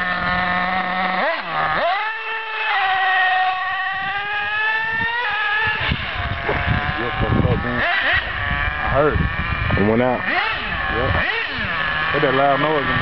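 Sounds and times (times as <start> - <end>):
small nitro engine buzzing: 0.0 - 13.0.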